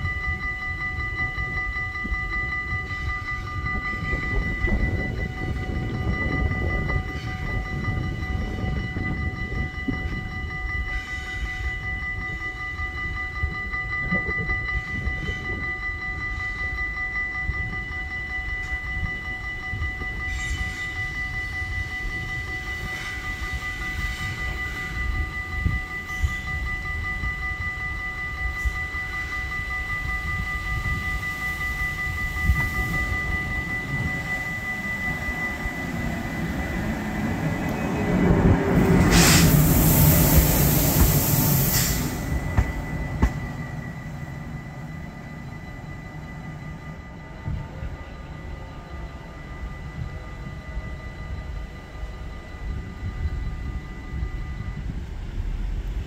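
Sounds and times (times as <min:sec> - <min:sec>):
steady high whine: 0:00.0 - 0:56.0
train low rumble: 0:00.0 - 0:56.0.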